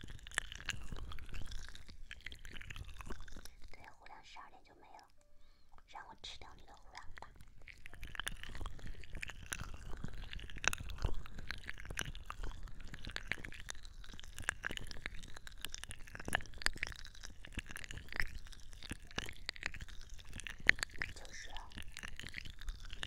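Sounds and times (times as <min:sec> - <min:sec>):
wet gel crackling and squishing: 0:00.0 - 0:04.1, 0:06.4 - 0:23.0.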